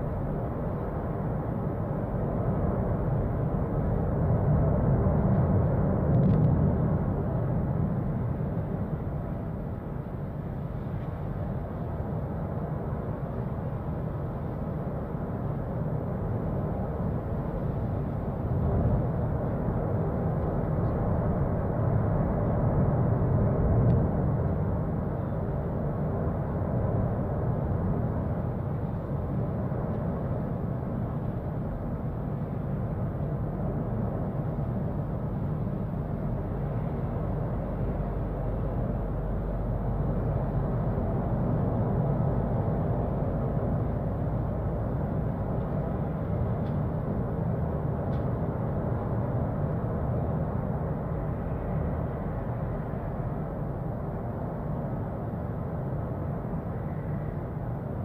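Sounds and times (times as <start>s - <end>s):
deep rumbling of volcano eruption: 0.0s - 58.0s.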